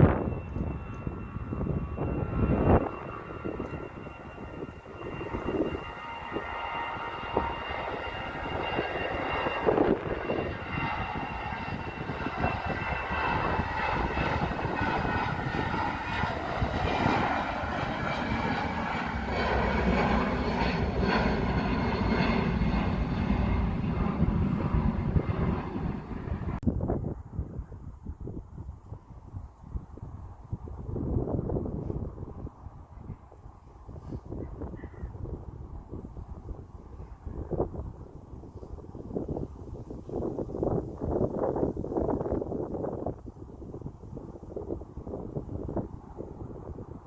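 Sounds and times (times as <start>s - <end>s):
jet engines whining and rumbling: 0.0s - 27.7s, 28.8s - 47.0s.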